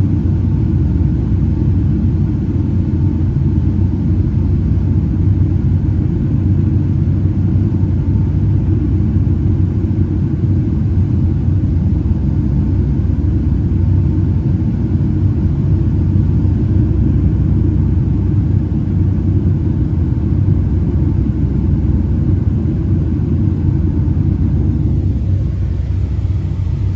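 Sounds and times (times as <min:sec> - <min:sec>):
aircraft cabin engine rumble: 0:00.0 - 0:26.9.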